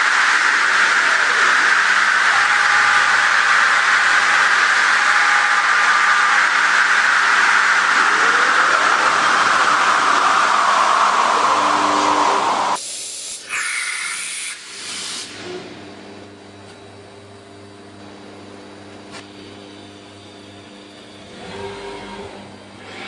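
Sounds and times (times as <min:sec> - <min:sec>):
machine humming: 0:00.0 - 0:12.8, 0:15.4 - 0:23.0
steady machine tones: 0:00.0 - 0:12.8, 0:16.9 - 0:23.0.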